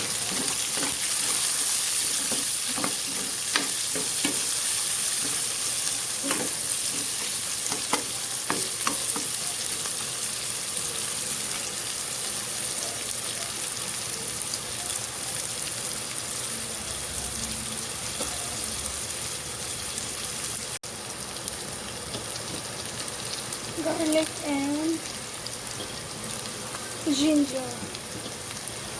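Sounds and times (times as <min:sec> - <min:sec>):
oil sizzling in a pan: 0:00.0 - 0:28.9.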